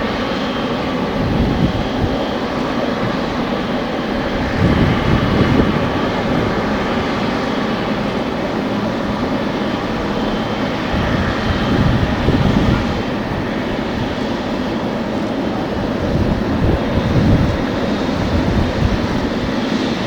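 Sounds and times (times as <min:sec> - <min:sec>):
jet engines rumbling: 0:00.0 - 0:20.0
wind gusting on microphone: 0:00.0 - 0:20.0.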